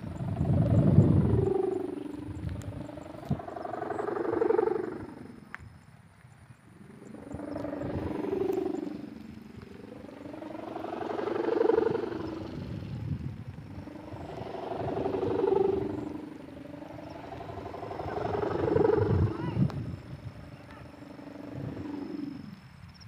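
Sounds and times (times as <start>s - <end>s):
kite hummer droning: 0.0s - 23.0s
wind rumble on microphone: 0.0s - 23.0s.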